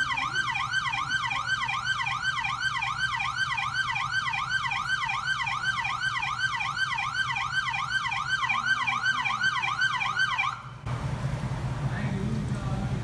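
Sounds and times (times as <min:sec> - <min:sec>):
police siren yelping: 0:00.0 - 0:10.8.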